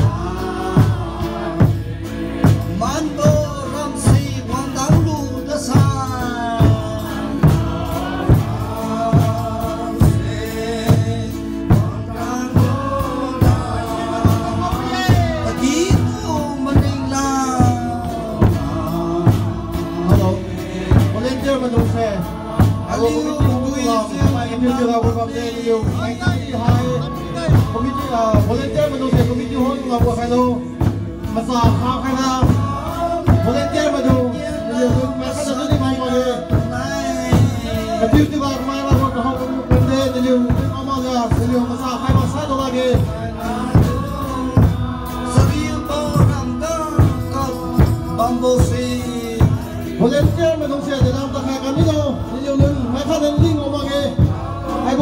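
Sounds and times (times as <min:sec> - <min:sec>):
choir singing over loudspeakers: 0:00.0 - 0:55.0
steady drum beat: 0:00.0 - 0:55.0.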